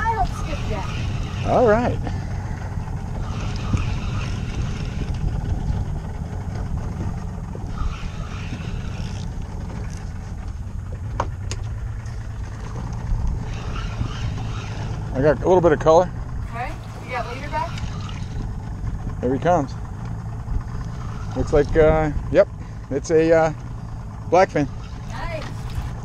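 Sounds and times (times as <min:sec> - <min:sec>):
boat engine running: 0:00.0 - 0:26.0
faint wind and water: 0:00.0 - 0:26.0.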